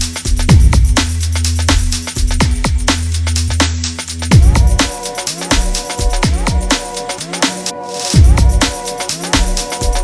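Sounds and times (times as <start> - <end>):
drum and bass electronic music: 0.0 - 10.0.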